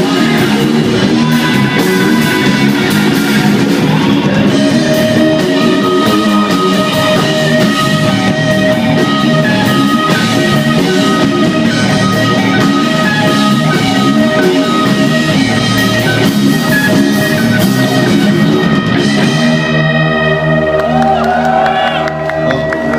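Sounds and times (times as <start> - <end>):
live rock band: 0.0 - 22.9.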